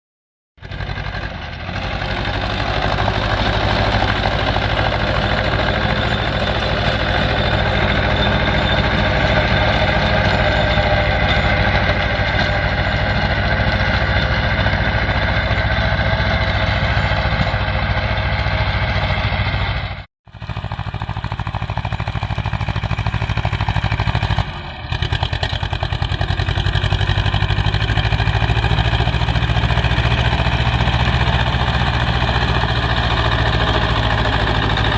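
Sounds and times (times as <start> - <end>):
tractor diesel engine running: 0.6 - 34.9.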